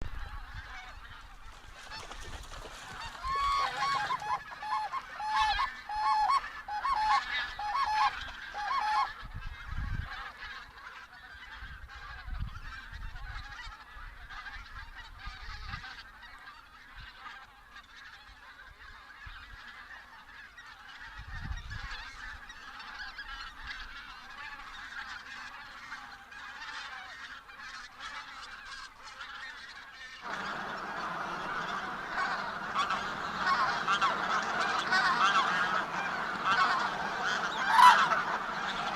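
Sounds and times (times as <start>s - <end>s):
geese honking: 0.1s - 21.3s, 22.0s - 38.9s.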